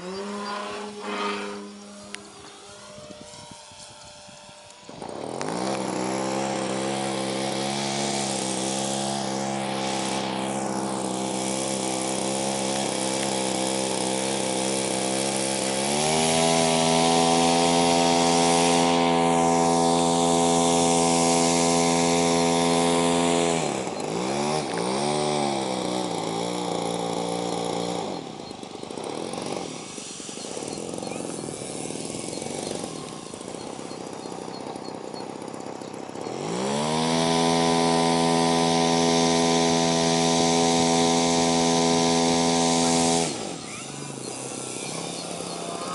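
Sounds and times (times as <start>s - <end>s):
model plane engine running: 0.0s - 45.9s.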